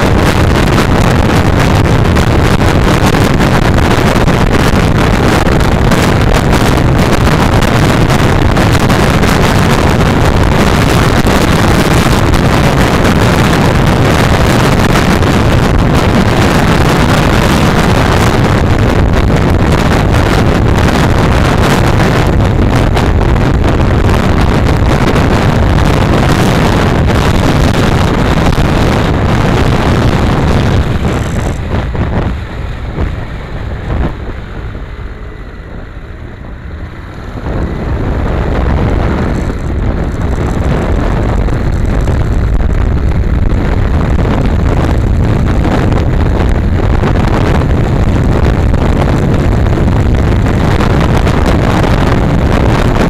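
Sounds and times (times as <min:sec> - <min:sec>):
motorcycle engine running: 0:00.0 - 0:53.0
road noise: 0:00.0 - 0:53.0
wind buffeting microphone: 0:00.0 - 0:53.0.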